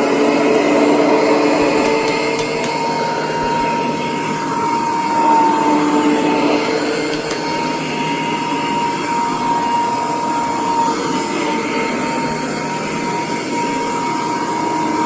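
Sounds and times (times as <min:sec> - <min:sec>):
vacuum cleaner motor whining: 0:00.0 - 0:15.0.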